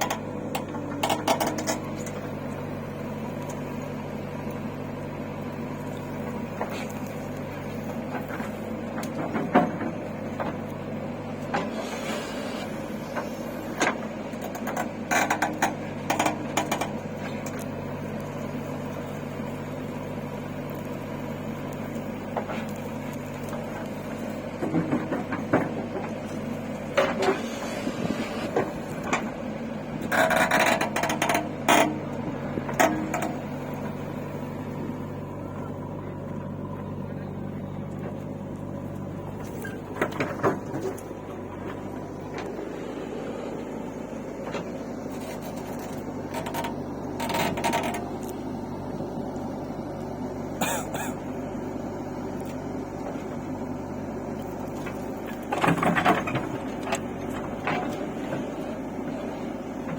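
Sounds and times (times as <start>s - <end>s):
heavy machine engine running: 0.0s - 59.9s.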